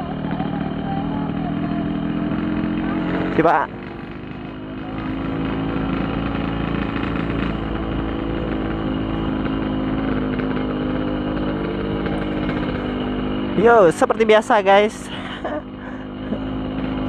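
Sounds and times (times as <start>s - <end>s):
motorcycle two-stroke engine running: 0.0s - 17.0s.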